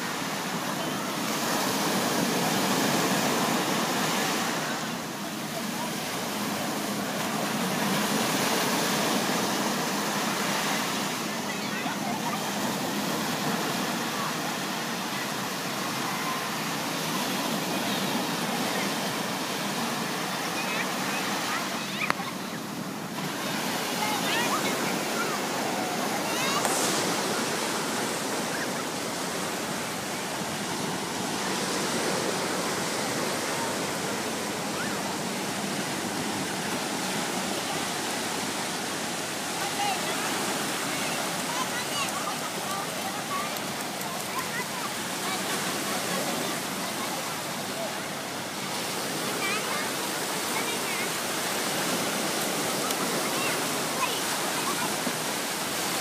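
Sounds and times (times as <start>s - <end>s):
faint voices: 0.0s - 56.0s
waves breaking on sand: 0.0s - 56.0s.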